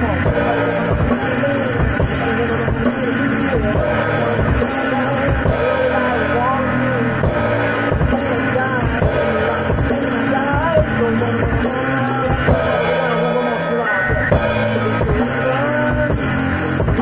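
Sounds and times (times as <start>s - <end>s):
person singing: 0.0s - 17.0s
rock guitar: 0.0s - 17.0s.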